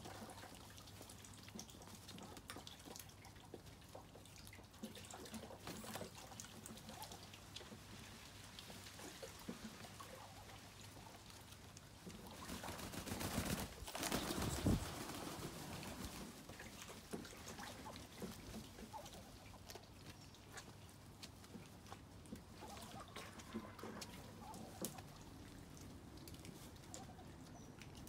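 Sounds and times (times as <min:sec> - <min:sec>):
ducks splashing in water: 0:00.0 - 0:28.0.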